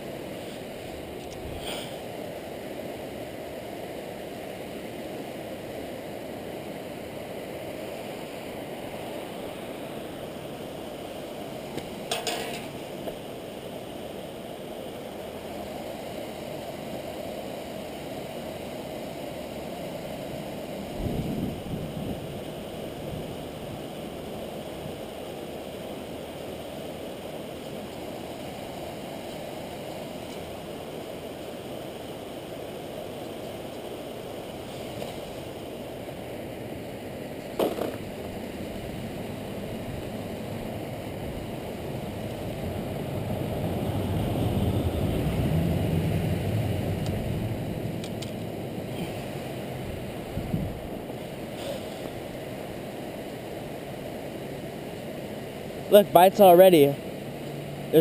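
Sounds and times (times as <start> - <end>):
river water over rocks: 0.0 - 58.0.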